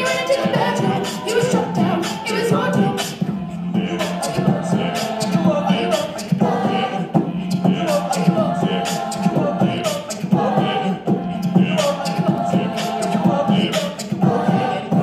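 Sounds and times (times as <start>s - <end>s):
a cappella group singing: 0.0s - 15.0s
beatboxing: 0.0s - 15.0s.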